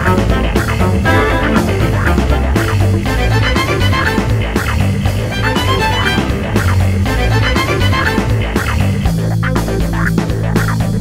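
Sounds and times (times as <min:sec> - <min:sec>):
guitar rock music: 0:00.0 - 0:11.0.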